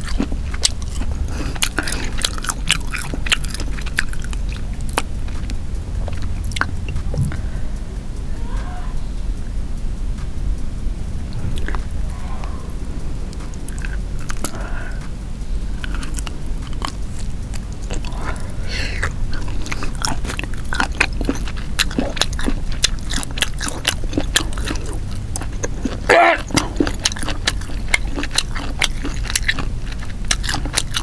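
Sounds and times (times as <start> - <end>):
wet chewing mouth sounds: 0.0 - 7.5, 11.3 - 31.0.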